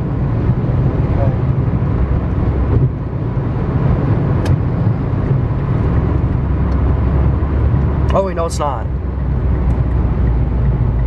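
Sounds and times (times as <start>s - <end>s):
car road noise and engine drone: 0.0s - 11.0s.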